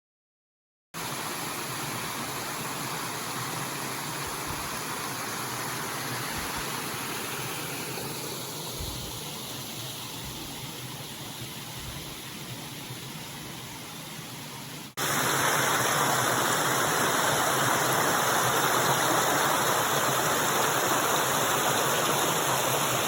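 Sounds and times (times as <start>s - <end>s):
waterfall rushing: 1.0s - 23.0s.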